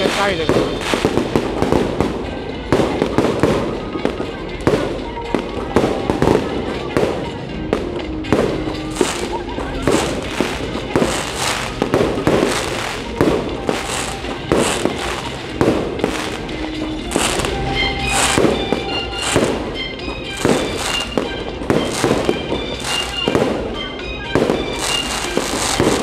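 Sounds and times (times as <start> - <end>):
fireworks bangs: 0.0 - 26.0
show music: 0.0 - 26.0.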